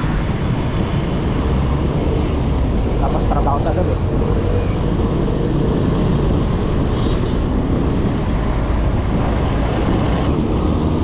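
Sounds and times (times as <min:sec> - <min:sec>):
road traffic noise: 0:00.0 - 0:11.0
wind rumble on microphone: 0:00.0 - 0:11.0.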